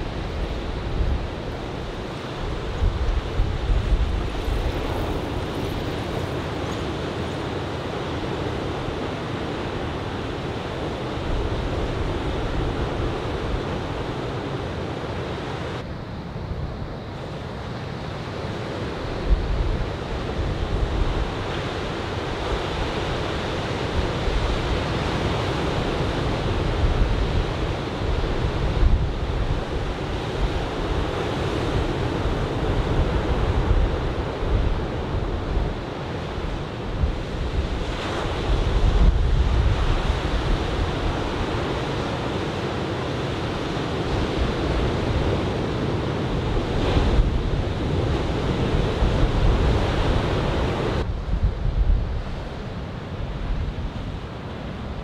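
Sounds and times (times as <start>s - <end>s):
wind buffeting microphone: 0.0s - 14.2s, 18.9s - 55.0s
ocean surf breaking: 0.0s - 15.8s, 18.5s - 51.2s.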